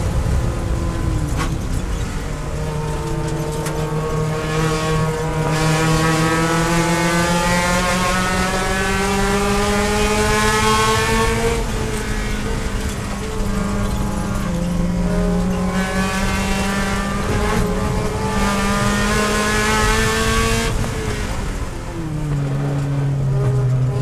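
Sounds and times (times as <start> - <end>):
race car engine at high revs: 0.0 - 24.0.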